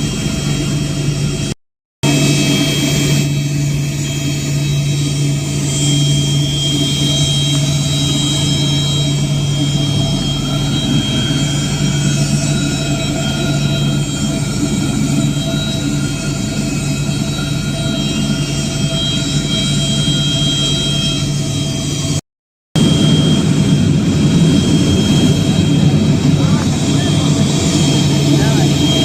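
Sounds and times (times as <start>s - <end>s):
aircraft engines droning: 0.0s - 22.2s, 22.8s - 29.0s
high-pitched engine whine: 0.0s - 22.2s, 22.8s - 29.0s.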